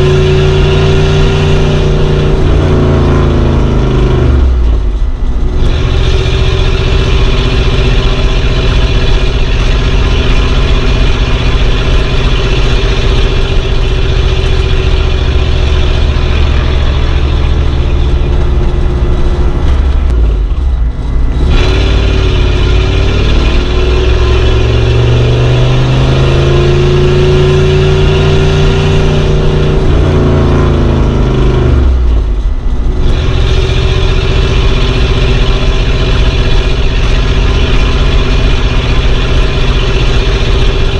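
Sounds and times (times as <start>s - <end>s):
old car engine running: 0.0s - 40.9s.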